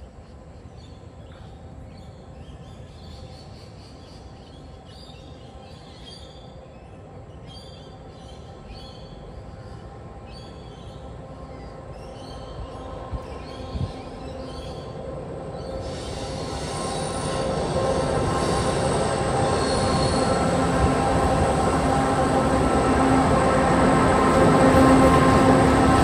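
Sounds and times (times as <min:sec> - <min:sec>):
train rumbling and humming: 0:00.0 - 0:26.0.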